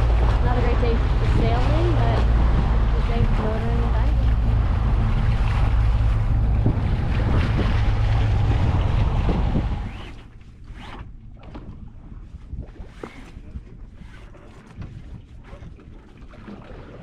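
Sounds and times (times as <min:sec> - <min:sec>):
water rushing along hull: 0:00.0 - 0:17.0
wind rumbling on microphone: 0:00.0 - 0:17.0.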